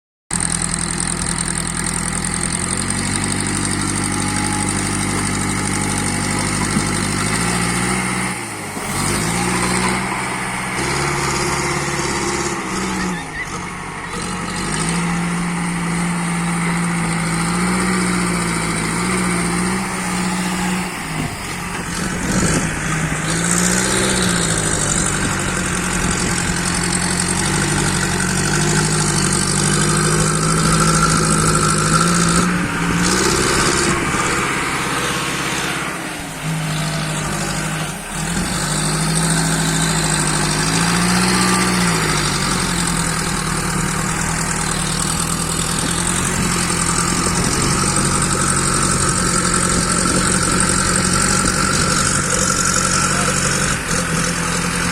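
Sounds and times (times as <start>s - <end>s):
diesel engine revving: 0.3s - 54.9s.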